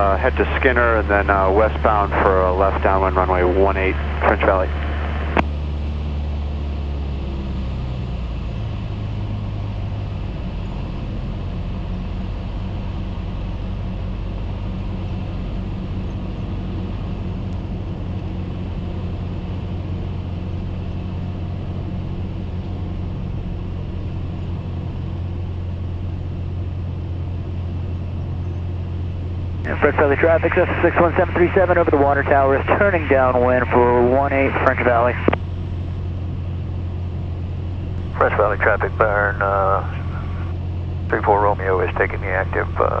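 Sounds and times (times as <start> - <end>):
airplane engine and propeller droning: 0.0 - 43.0.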